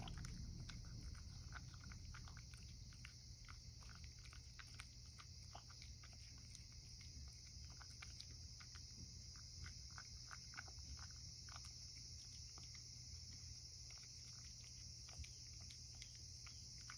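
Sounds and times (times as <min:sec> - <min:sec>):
cat chewing and lapping: 0:00.0 - 0:16.9.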